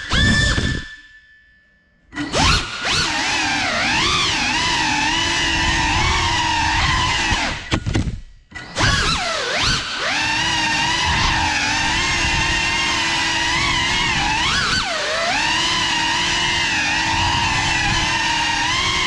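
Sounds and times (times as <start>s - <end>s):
drone motors whining: 0.0s - 1.0s, 2.1s - 19.0s.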